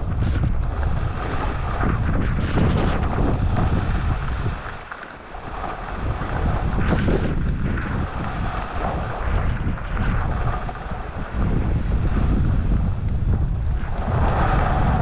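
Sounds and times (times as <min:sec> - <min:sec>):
skis scraping on snow: 0:00.0 - 0:15.0
wind buffeting microphone: 0:00.0 - 0:15.0.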